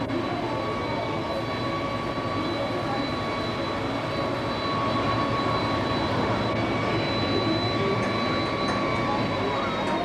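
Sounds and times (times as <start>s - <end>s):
jet engines whining: 0.0s - 10.0s.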